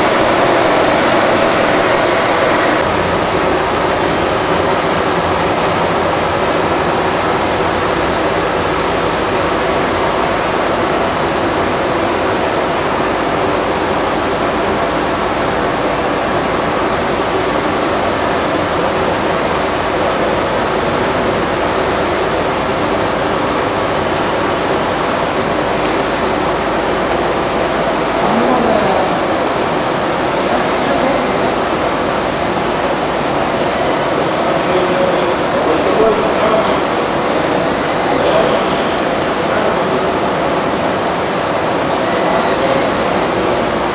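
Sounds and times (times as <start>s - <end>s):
factory machinery rushing: 0.0s - 43.9s
faint hum: 0.0s - 43.9s.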